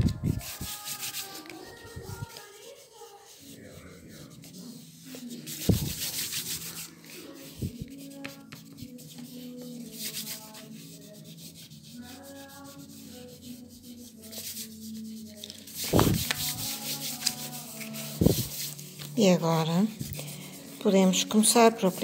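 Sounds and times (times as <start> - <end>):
hand rubbing paper: 0.0 - 22.0.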